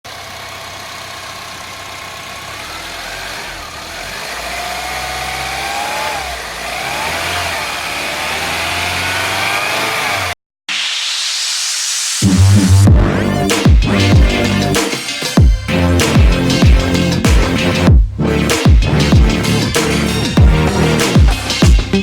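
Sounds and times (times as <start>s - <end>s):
car engine revving: 1.2s - 10.4s, 12.2s - 14.9s, 15.6s - 22.0s.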